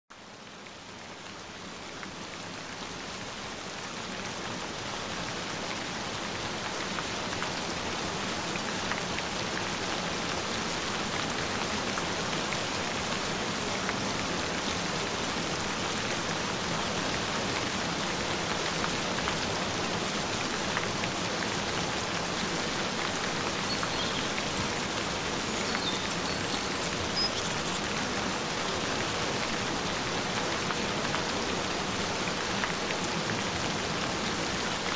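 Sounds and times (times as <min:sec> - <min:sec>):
gentle rain falling: 0:00.1 - 0:34.9.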